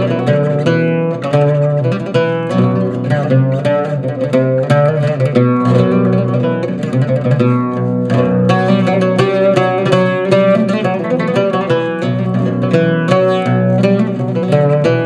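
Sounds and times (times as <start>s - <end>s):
oud plucked melody: 0.0s - 15.0s.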